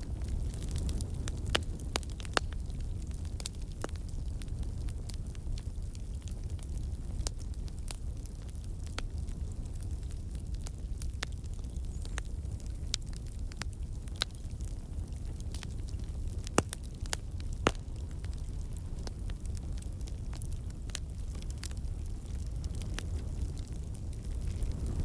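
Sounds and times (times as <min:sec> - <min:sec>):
campfire low rumble: 0:00.0 - 0:25.0
fire crackling and popping: 0:00.0 - 0:25.0.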